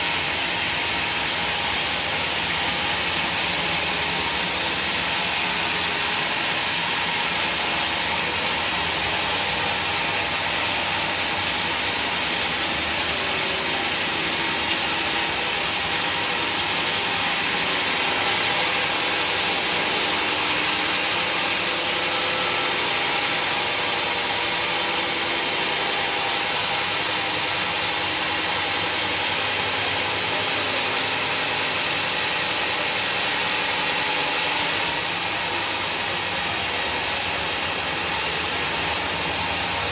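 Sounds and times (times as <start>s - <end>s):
woodworking machine hissing: 0.0s - 39.9s.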